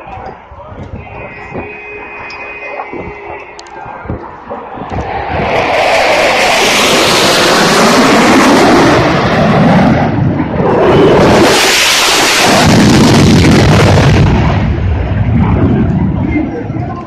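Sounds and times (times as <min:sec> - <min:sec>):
fighter jets flying past: 0:00.0 - 0:17.0.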